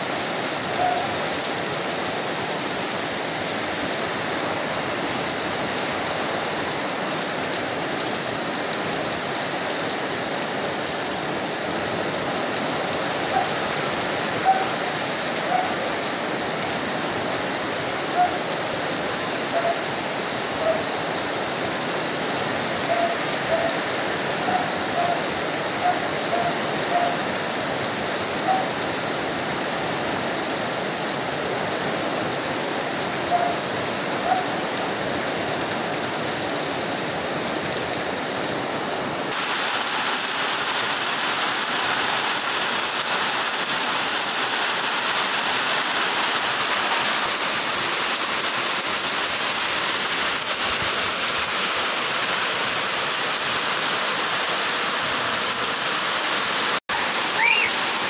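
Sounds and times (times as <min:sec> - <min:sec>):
heavy rain falling: 0:00.0 - 0:58.0
rain running off metal roofs: 0:00.0 - 0:58.0.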